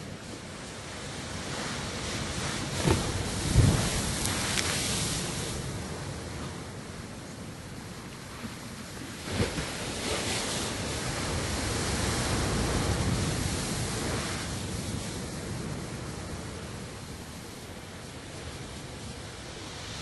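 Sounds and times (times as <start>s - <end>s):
sea waves crashing on rocks: 0.0s - 20.0s
surf rushing: 0.0s - 20.0s.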